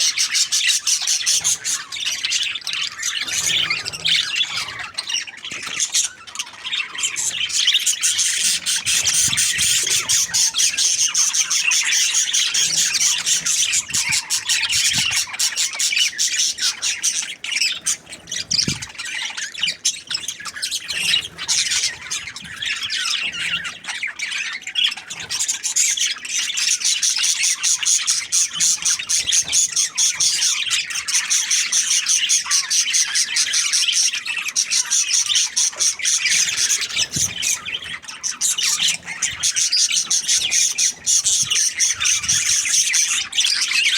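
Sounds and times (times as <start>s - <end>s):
budgerigars chirping and squawking: 0.0s - 43.9s.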